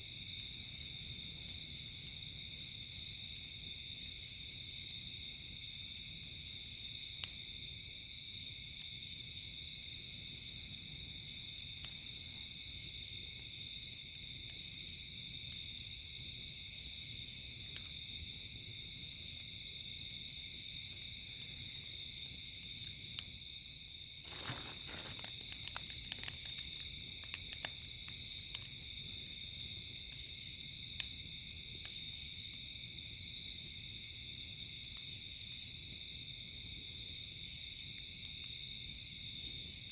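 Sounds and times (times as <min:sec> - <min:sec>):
crickets chirring: 0:00.0 - 0:39.9
insects buzzing: 0:00.0 - 0:39.9
campfire popping and crackling: 0:00.9 - 0:05.8, 0:07.0 - 0:39.4.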